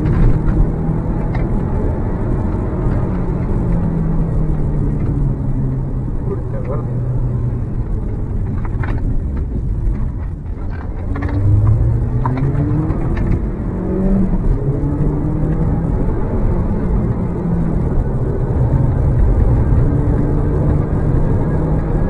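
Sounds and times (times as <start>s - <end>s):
car engine under load: 0.0s - 22.0s.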